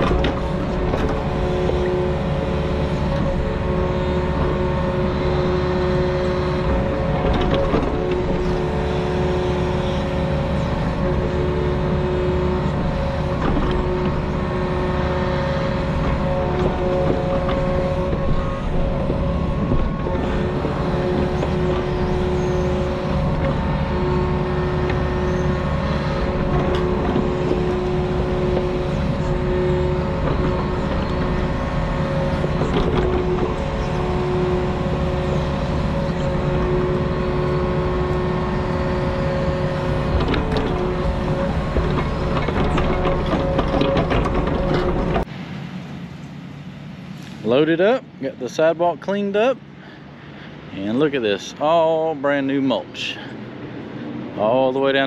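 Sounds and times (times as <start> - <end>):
diesel engine rumbling: 0.0 - 55.0.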